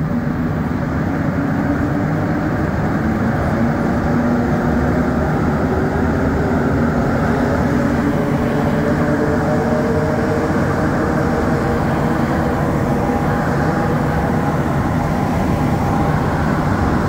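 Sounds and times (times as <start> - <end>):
train running in tunnel: 0.0 - 17.0.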